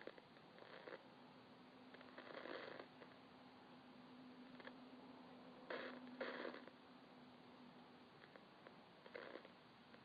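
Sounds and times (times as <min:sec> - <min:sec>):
faint steady hiss: 0:00.0 - 0:10.0
faint steady hum: 0:00.0 - 0:10.0.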